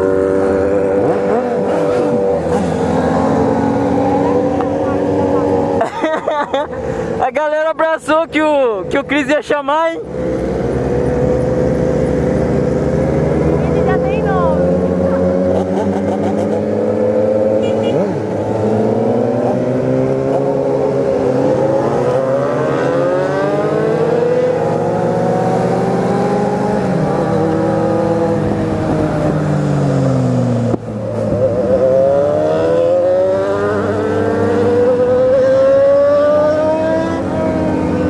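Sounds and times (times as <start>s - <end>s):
motorcycle engine accelerating: 0.0s - 7.2s, 10.0s - 38.0s
other motorcycle engines: 0.0s - 38.0s.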